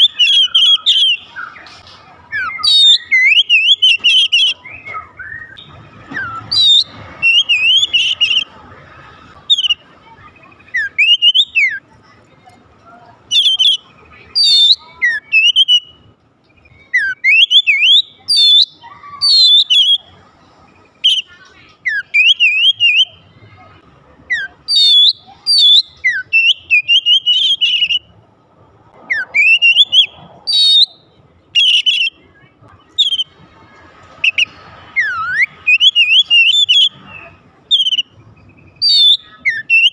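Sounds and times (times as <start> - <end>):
bird singing whistles and trills: 0.0 - 8.5, 9.4 - 11.8, 13.3 - 20.1, 21.0 - 23.2, 24.3 - 28.1, 29.1 - 32.2, 32.9 - 33.4, 34.2 - 39.9.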